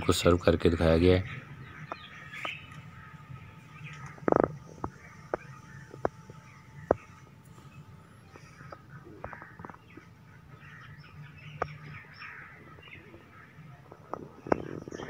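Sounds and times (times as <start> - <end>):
birds chirping faintly: 0.0 - 15.0
faint low hum: 0.0 - 15.0.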